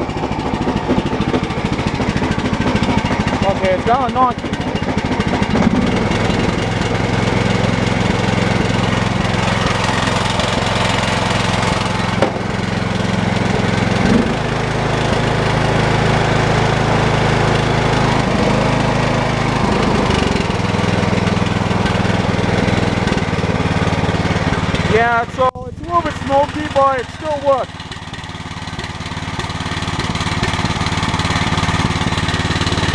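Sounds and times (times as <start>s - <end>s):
lawn tractor engine running: 0.0s - 32.9s.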